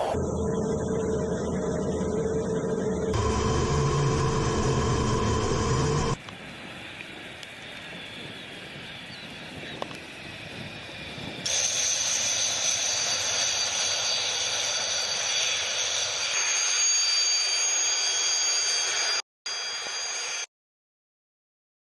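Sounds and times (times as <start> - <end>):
high-pitched turbine whine: 0.0 - 6.2, 7.7 - 20.5
jet engines rushing: 0.0 - 19.2.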